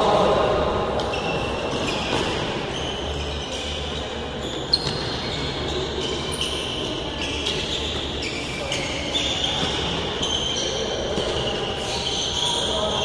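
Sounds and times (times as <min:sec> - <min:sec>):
sneakers squeaking: 0:00.8 - 0:13.0.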